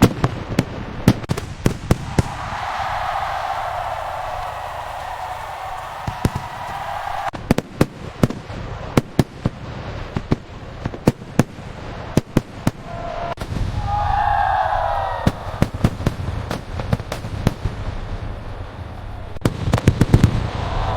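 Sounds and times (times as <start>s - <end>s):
fireworks bangs and cracks: 0.0s - 20.9s.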